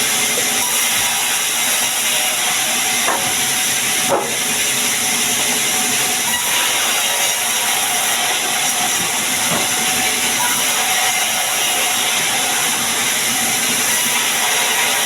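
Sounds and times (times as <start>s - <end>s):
sawmill machinery hissing: 0.0s - 15.0s.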